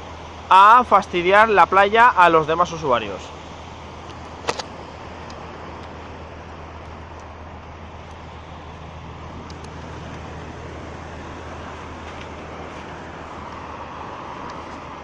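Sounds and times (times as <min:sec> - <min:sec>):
machine engine droning: 0:02.3 - 0:15.0.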